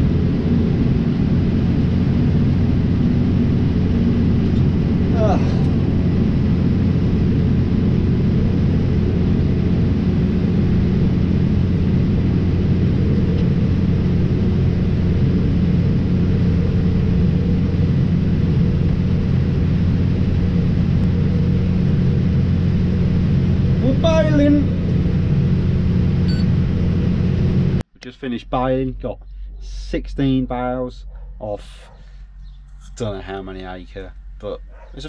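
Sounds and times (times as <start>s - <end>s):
tractor engine drone: 0.0s - 35.0s.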